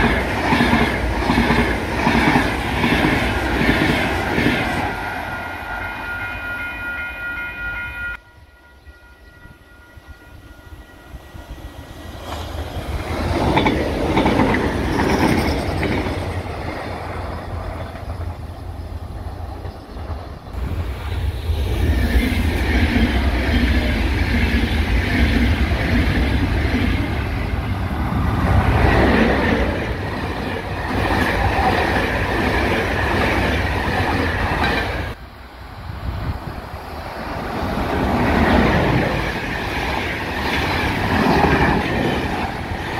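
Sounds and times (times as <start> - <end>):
electric trains passing: 0.0 - 42.9
train coaches rumbling past: 0.0 - 42.9.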